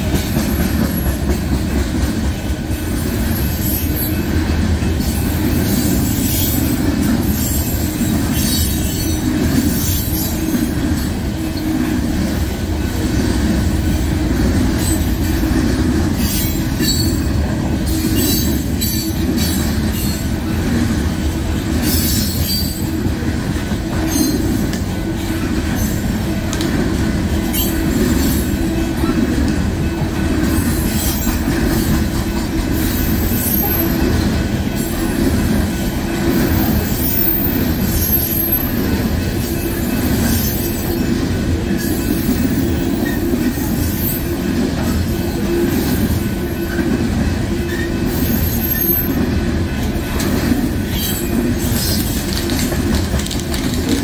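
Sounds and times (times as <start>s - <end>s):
train wheel squeals: 0.0s - 1.8s, 2.8s - 12.0s, 14.5s - 20.7s, 21.5s - 23.3s, 23.9s - 26.3s, 27.4s - 52.8s
train rumbling on track: 0.0s - 54.0s.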